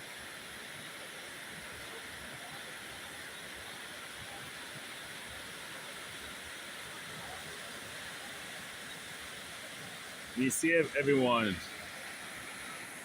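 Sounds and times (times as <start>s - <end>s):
floodwater rushing: 1.8s - 13.0s.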